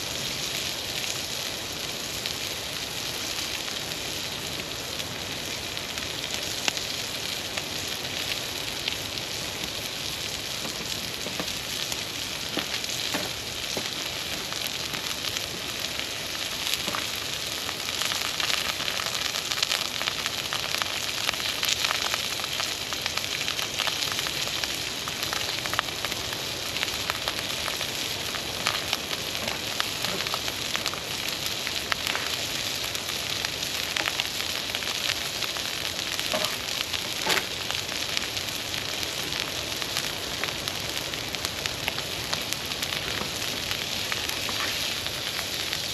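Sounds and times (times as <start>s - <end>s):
campfire hissing and crackling: 0.0s - 45.9s.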